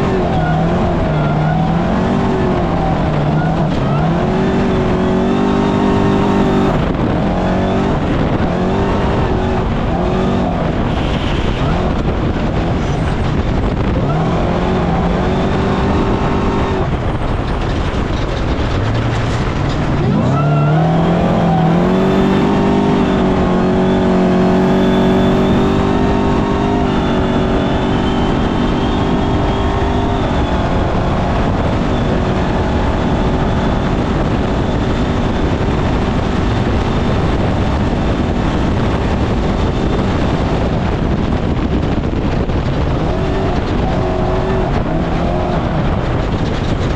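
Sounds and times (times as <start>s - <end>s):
race vehicle engine revving: 0.0s - 46.9s
wind noise: 0.0s - 46.9s.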